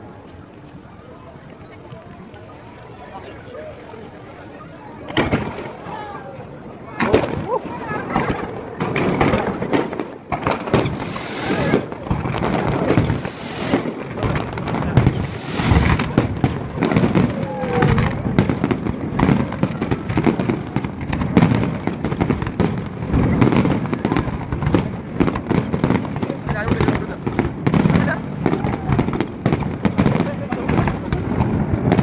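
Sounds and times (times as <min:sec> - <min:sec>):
fireworks bangs and pops: 0:05.0 - 0:32.0.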